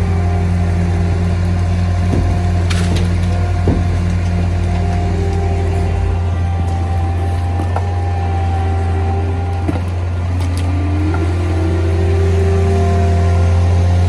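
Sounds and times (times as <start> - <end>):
loader engine droning: 0.0 - 14.0.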